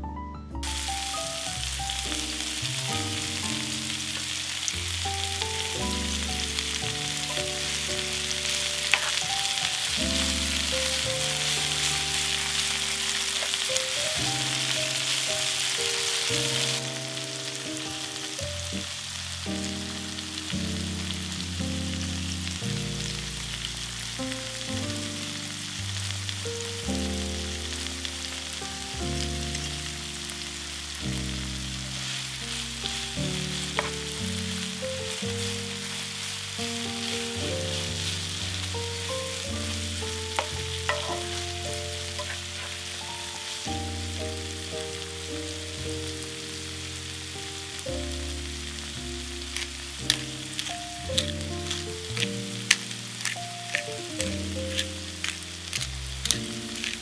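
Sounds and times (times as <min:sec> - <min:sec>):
background music: 0:00.0 - 0:57.0
food sizzling in oil: 0:00.6 - 0:57.0.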